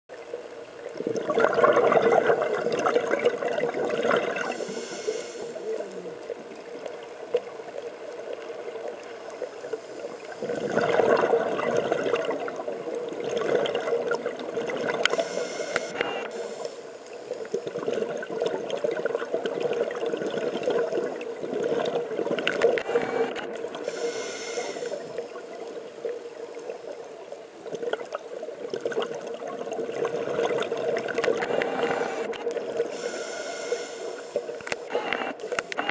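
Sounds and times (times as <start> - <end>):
steady hum: 0.1 - 19.2, 20.1 - 27.6, 30.0 - 35.9
underwater bubbles rumbling: 0.2 - 16.6, 17.2 - 24.2, 24.8 - 33.1.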